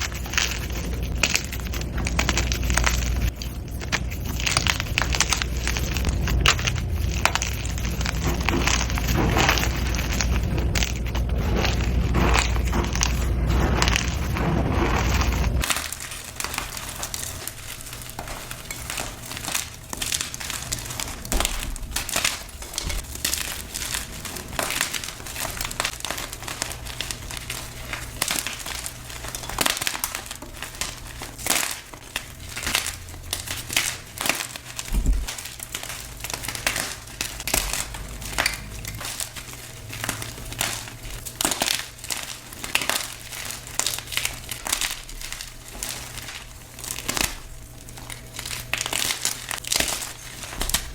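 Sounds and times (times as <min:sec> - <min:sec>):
chalk crunching: 0:00.0 - 0:50.9.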